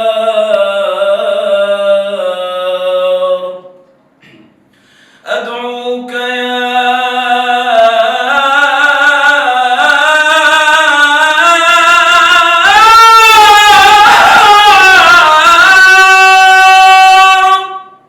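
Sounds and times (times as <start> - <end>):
man singing devotional song: 0.0 - 3.8, 5.2 - 18.0.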